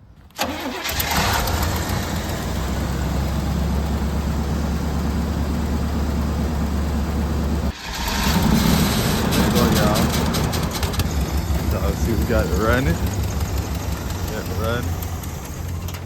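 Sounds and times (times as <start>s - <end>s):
car engine idling: 0.4s - 16.0s.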